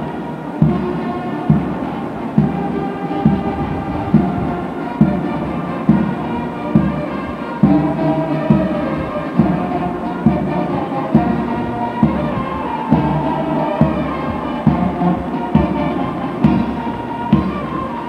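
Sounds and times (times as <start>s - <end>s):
brass band playing a march: 0.0s - 18.0s.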